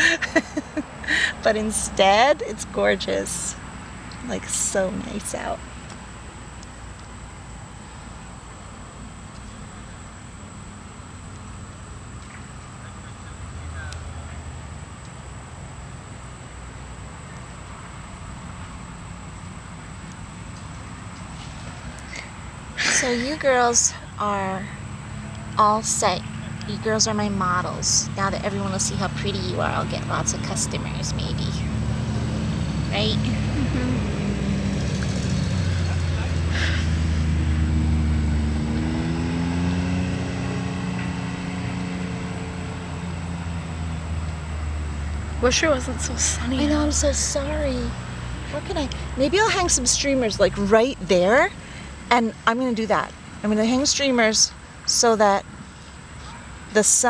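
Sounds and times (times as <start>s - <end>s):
outdoor low rumble: 0.0s - 54.8s
engine running low: 0.0s - 57.0s.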